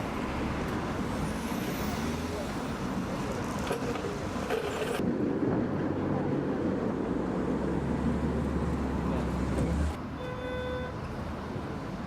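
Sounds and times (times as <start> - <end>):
passing vehicles rushing: 0.0 - 10.1.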